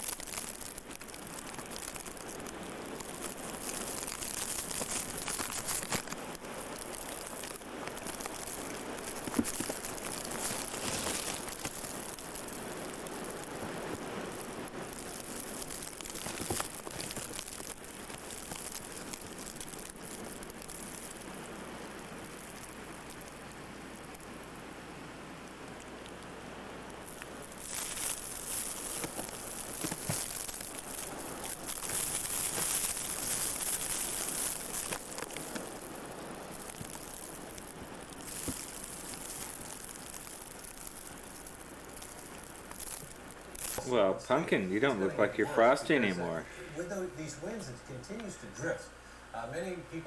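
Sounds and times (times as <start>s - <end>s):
knocks and crunches: 0.0s - 23.4s, 27.0s - 43.9s
blowing snow hiss: 0.0s - 50.0s.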